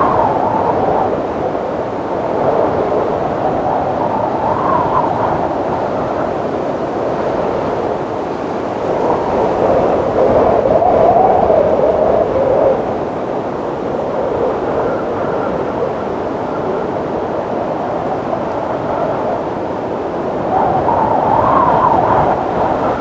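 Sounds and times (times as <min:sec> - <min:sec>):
wind rushing and moaning: 0:00.0 - 0:23.0.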